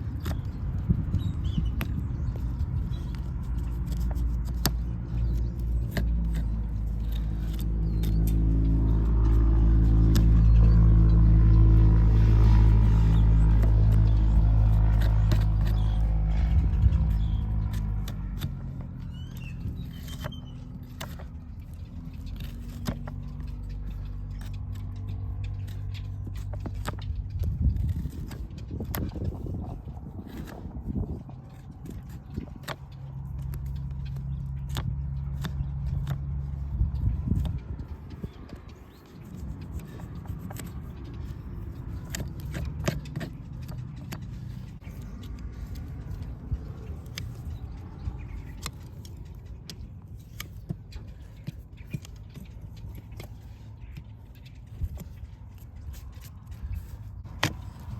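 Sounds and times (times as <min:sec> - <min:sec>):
hand tools tapping on hoof: 0:00.0 - 0:57.9
low hum: 0:00.0 - 0:57.9
steady low rumble: 0:00.0 - 0:57.9.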